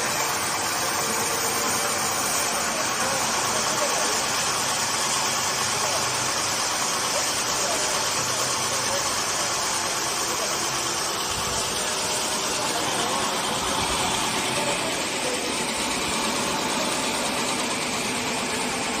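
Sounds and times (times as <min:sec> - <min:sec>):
band sawmill running: 0:00.0 - 0:19.0.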